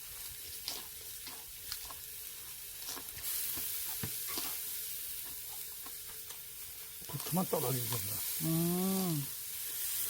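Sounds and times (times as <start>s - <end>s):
fat popping and crackling: 0.0s - 9.2s
meat sizzling over charcoal: 0.0s - 10.0s.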